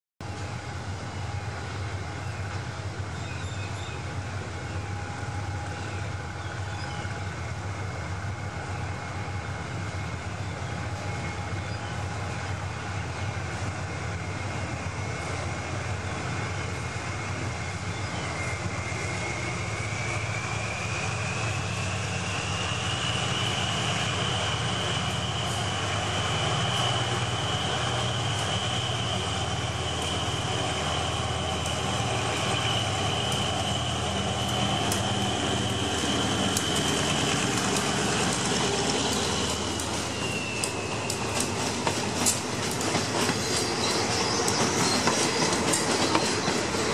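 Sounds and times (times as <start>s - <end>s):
high whine: 0.2s - 46.9s
locomotive engine drone: 0.2s - 46.9s.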